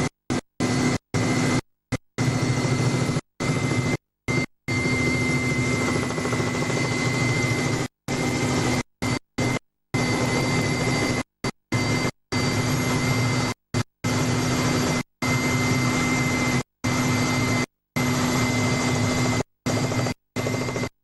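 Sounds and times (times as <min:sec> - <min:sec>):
helicopter noise inside cabin: 0:00.0 - 0:21.0.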